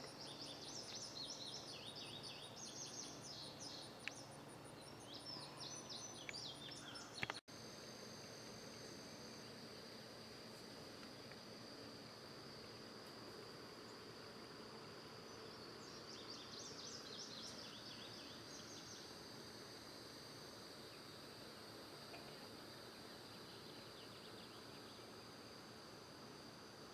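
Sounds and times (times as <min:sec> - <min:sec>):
crickets trilling: 0:00.0 - 0:26.9.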